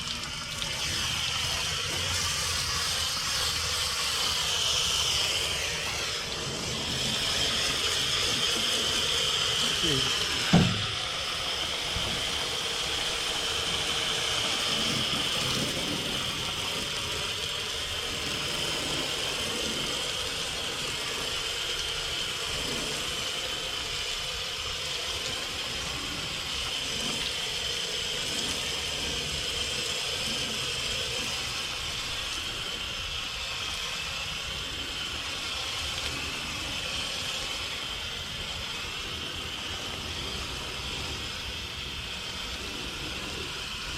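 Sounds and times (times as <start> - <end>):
hose spray nozzle hissing: 0.0 - 43.9.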